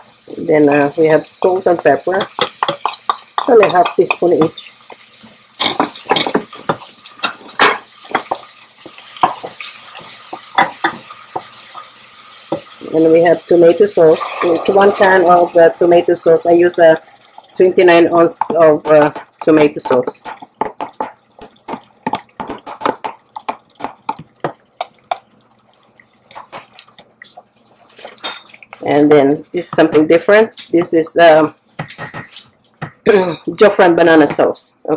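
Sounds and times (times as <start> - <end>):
soft sizzle of frying onions: 0.0 - 34.9
spoon knocking and scraping pan: 0.6 - 25.4, 26.2 - 34.6
sauce plopping into saucepan: 0.7 - 28.8.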